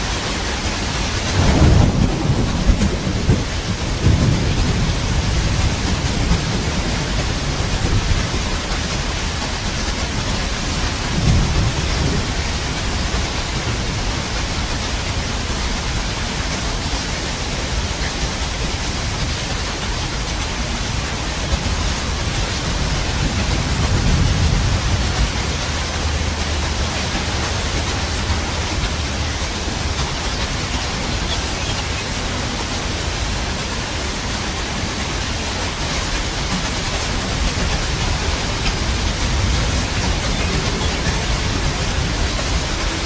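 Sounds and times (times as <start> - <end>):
dense rainfall hiss: 0.0 - 43.0
low thunder rumble: 0.0 - 43.0.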